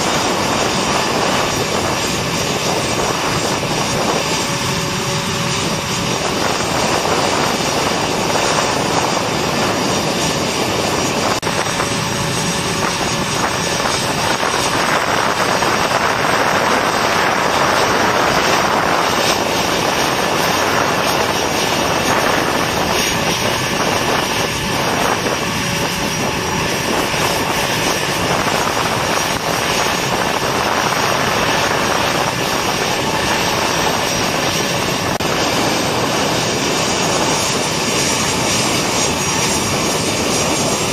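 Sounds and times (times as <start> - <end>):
jet engine roar: 0.0 - 40.9.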